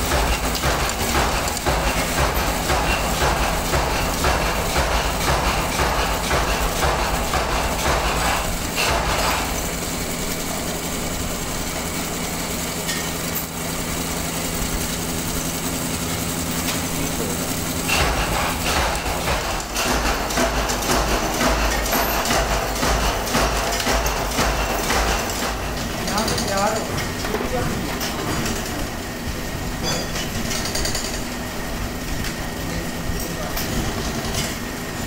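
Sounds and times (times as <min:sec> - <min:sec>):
machine rattle: 0:00.0 - 0:29.0, 0:29.8 - 0:31.5
machine motor hum: 0:00.0 - 0:29.8.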